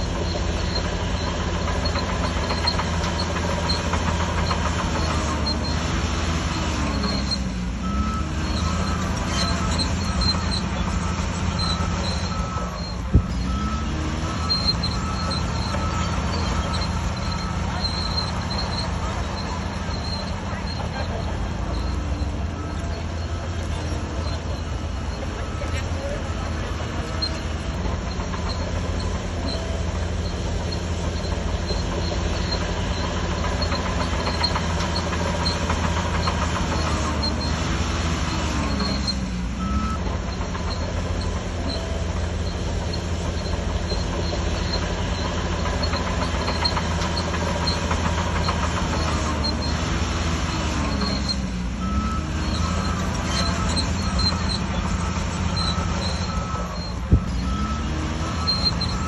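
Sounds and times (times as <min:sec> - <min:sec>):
bulldozer diesel engine droning: 0:00.0 - 0:59.0
steel tracks squealing: 0:00.0 - 0:59.0.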